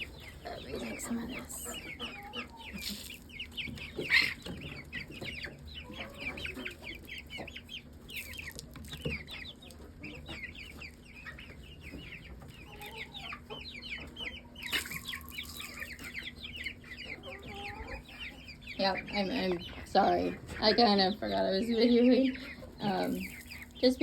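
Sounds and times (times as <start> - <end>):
chicks peeping: 0.0 - 24.0
hens clucking: 0.0 - 24.0.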